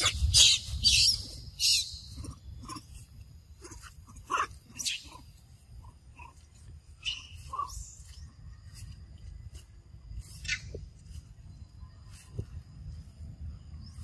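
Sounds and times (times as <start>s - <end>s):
monkeys squeaking and chirping: 0.0s - 11.5s.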